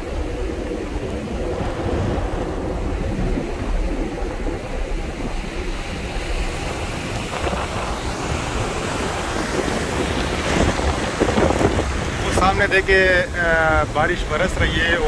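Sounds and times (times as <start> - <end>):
rushing water of wake: 0.0 - 15.0
wind buffeting microphone: 0.0 - 15.0.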